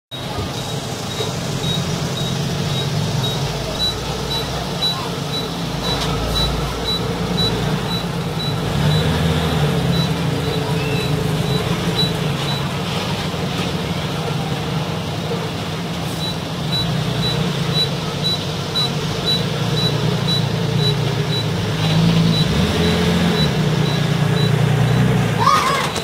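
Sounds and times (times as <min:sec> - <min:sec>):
diesel truck engine running: 0:00.1 - 0:26.0
short high reversing beeps: 0:00.2 - 0:12.7, 0:16.1 - 0:24.6.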